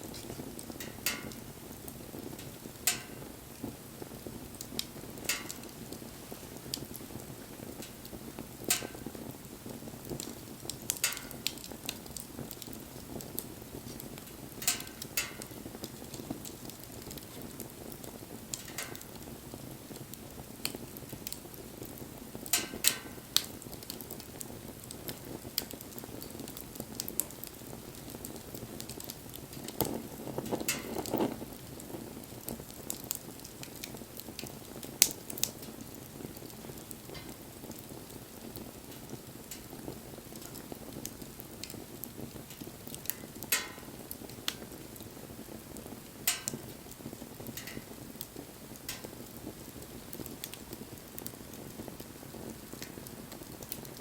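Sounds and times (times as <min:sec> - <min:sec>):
campfire flame rushing: 0:00.0 - 0:54.0
wood popping and crackling: 0:00.0 - 0:54.0.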